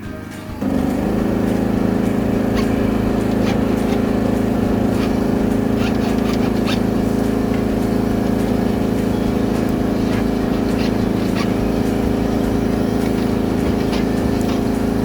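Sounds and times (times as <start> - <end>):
machine engine running: 0.6 - 15.0.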